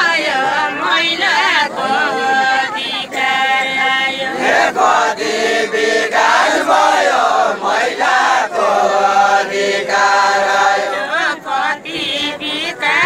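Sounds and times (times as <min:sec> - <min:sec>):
men chanting a folk song: 0:00.0 - 0:13.0.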